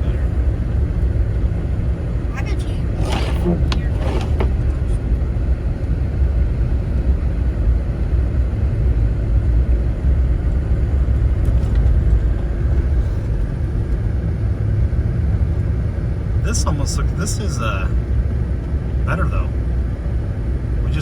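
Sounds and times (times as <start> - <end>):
vehicle driving rumble: 0.0 - 21.0.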